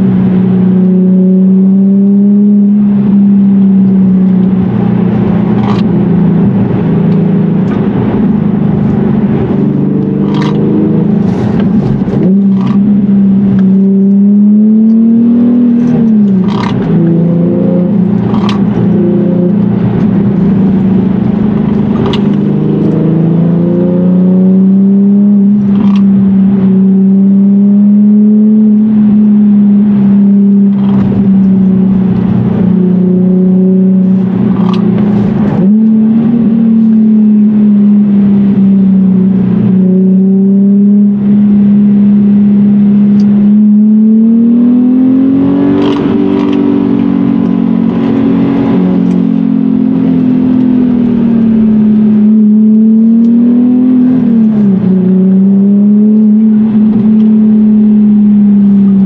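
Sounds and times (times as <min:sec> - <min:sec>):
car engine under load from cabin: 0:00.0 - 0:59.0.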